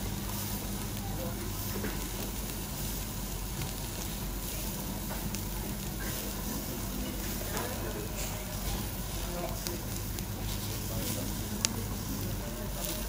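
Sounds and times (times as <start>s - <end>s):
faint crackles: 0.0s - 13.0s
meat sizzling on a grill: 0.0s - 13.0s.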